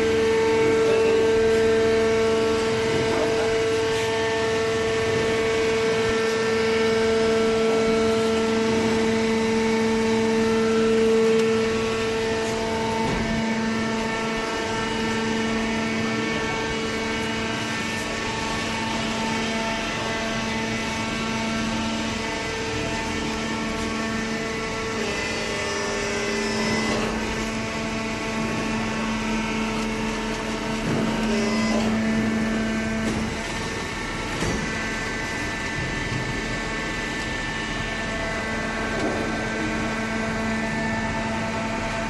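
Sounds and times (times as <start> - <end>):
hydraulic baler motor humming: 0.0 - 42.0.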